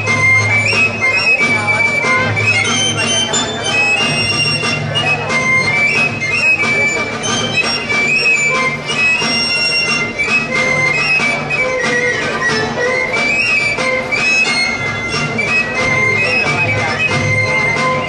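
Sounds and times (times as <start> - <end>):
fiddle: 0.0 - 18.0
high flute-like melody: 0.0 - 18.0
steady beat: 0.0 - 18.0.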